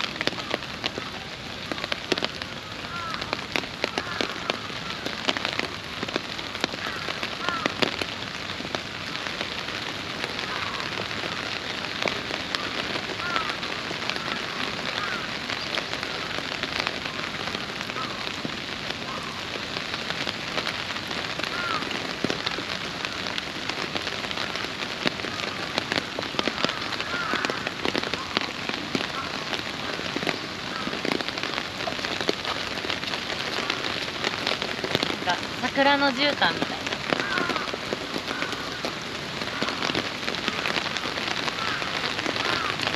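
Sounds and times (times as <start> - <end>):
rain on plastic umbrella: 0.0 - 42.9.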